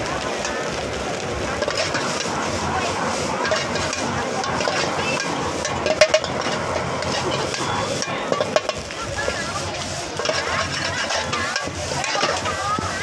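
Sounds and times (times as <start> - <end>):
gas burner and frying rush: 0.0 - 13.0
metal ladle scraping a wok: 0.3 - 13.0.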